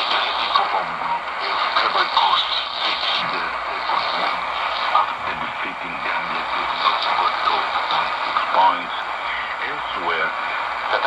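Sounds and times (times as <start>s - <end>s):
radio static hiss: 0.0s - 11.0s
voice on radio: 0.0s - 11.0s.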